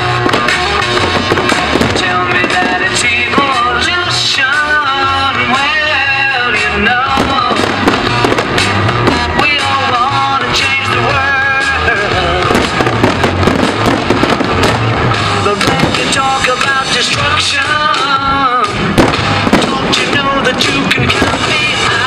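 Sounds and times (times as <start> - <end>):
fireworks bursting and crackling: 0.0 - 22.0
music with steady beat: 0.0 - 22.0.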